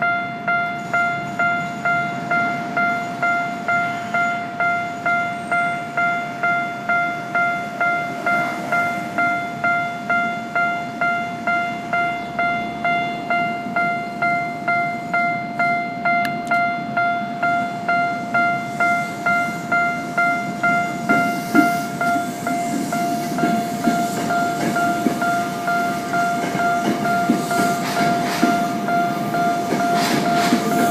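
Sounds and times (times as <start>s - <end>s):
level-crossing warning bell: 0.0s - 30.9s
subway train rumble and clatter: 0.0s - 30.9s.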